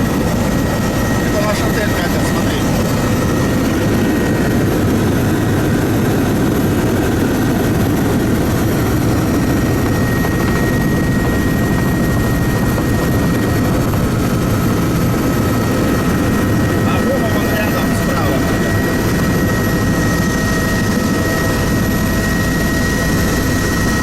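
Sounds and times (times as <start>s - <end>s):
helicopter engine and rotor noise: 0.0s - 24.0s.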